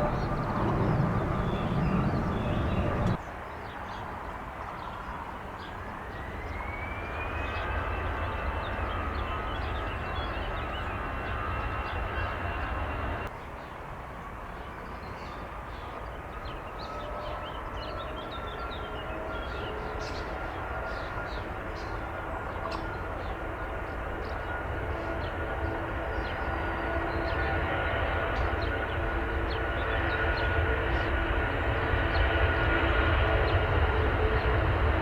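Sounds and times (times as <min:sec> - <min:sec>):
jet engines rumbling and whining: 0:00.0 - 0:03.3, 0:05.8 - 0:13.3, 0:17.0 - 0:35.0.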